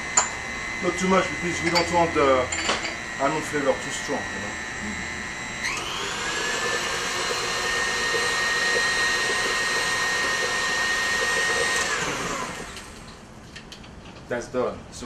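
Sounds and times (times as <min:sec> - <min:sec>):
stand mixer motor whine: 0:00.0 - 0:13.3.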